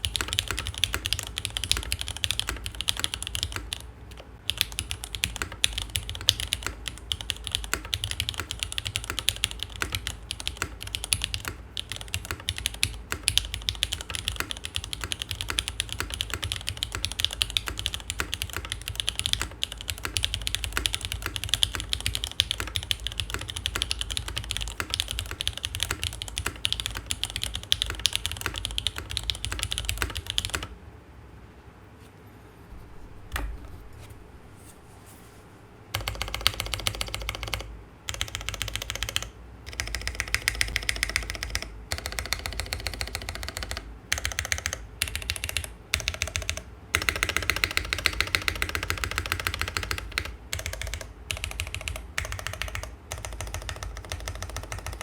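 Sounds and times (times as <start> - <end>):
mechanical keyboard typing: 0.0 - 30.8, 35.9 - 55.0.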